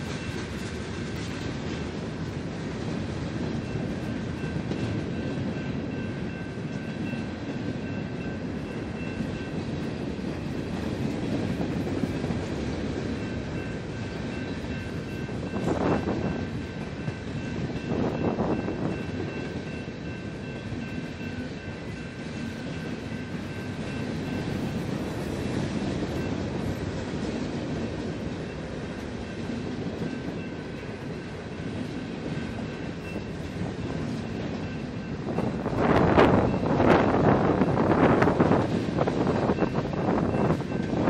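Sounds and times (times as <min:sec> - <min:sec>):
freight cars rumbling on rails: 0:00.0 - 0:41.0.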